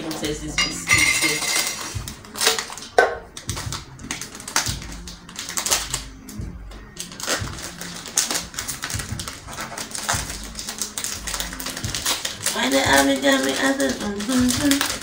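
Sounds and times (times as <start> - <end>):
wrapper crackling: 1.0 - 6.4, 7.0 - 15.0.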